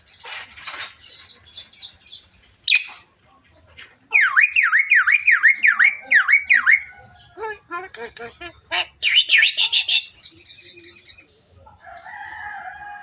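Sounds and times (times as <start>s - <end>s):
bird chirps and calls: 0.0s - 12.2s.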